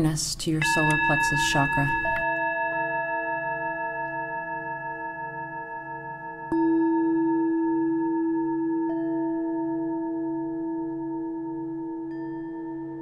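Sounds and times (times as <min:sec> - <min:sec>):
singing bowl ringing: 0:00.6 - 0:13.0
singing bowl strike: 0:00.6 - 0:13.0.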